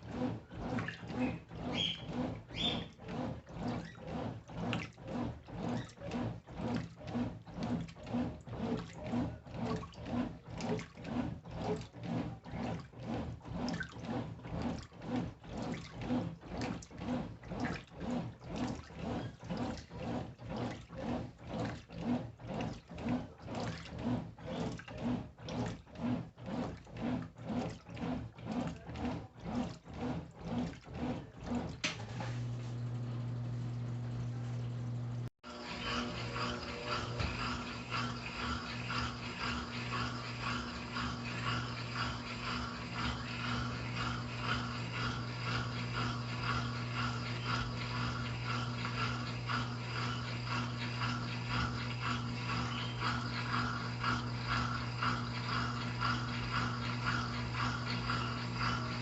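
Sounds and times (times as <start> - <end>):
low motor hum: 0.0 - 59.0
washing machine swishing water: 0.0 - 59.0.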